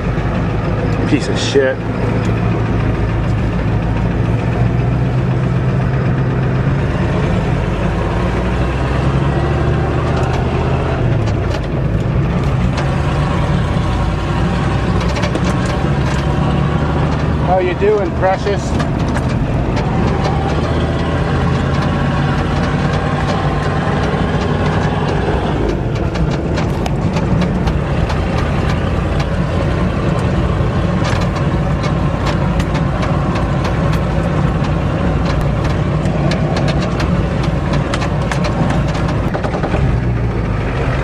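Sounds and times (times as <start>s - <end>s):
cab clicks and rattles: 0.0s - 41.0s
diesel truck engine running: 0.0s - 41.0s.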